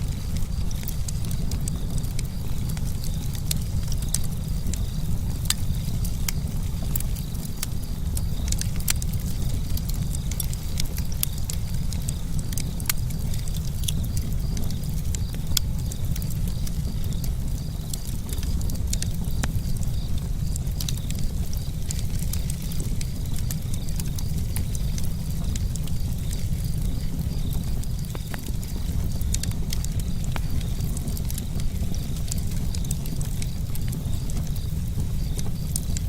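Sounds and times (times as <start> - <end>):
campfire wood crackling and popping: 0.0 - 36.0
low fire rumble: 0.0 - 36.0.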